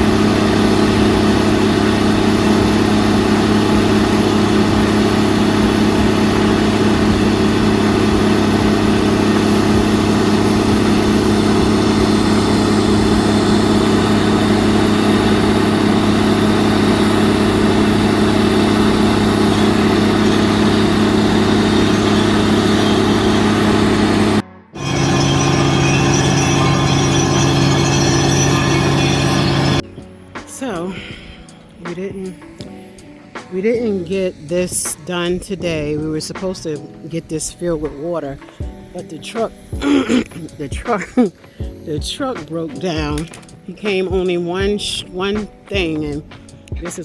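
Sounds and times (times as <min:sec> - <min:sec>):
diesel engine droning: 0:00.0 - 0:47.0.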